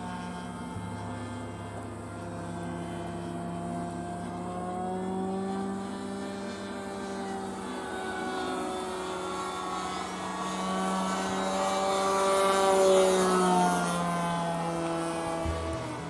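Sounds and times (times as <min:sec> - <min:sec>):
model airplane buzzing drone: 0:00.0 - 0:16.0.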